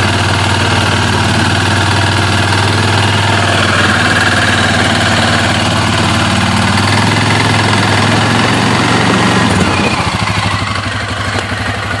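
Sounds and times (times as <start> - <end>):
engine idling with low pulses: 0.0 - 12.0.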